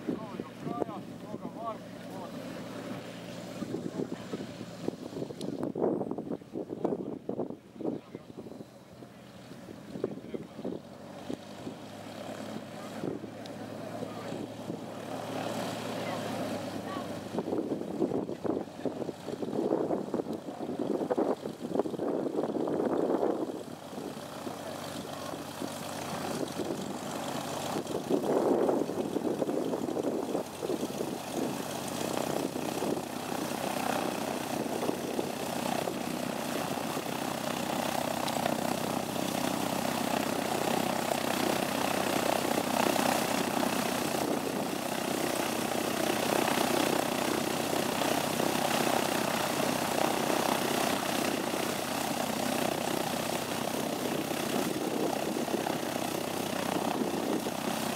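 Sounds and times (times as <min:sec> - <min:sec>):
propeller aircraft engine: 0:00.0 - 0:57.9.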